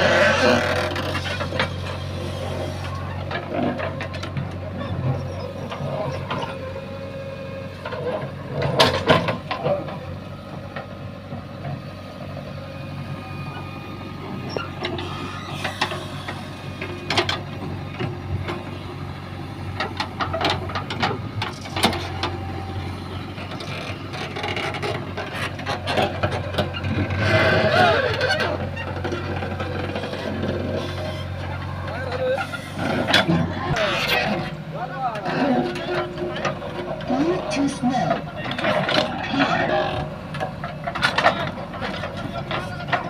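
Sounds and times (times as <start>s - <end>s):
diesel engine running under load: 0.0s - 43.0s.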